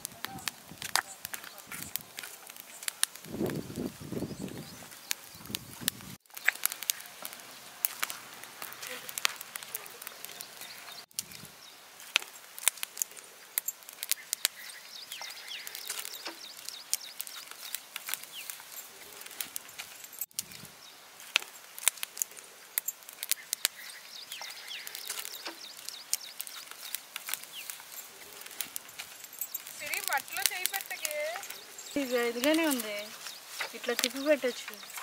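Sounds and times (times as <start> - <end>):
birds chirping: 0.0 - 35.0
wood fire crackling and popping: 0.0 - 35.0.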